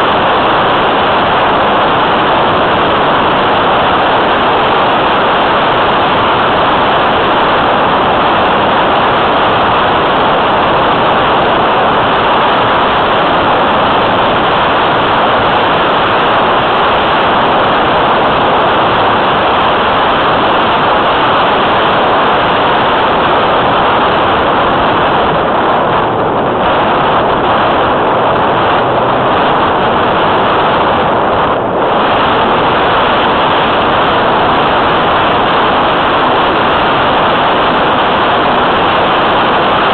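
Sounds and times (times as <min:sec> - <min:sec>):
airflow roar over microphone: 0:00.0 - 0:39.9.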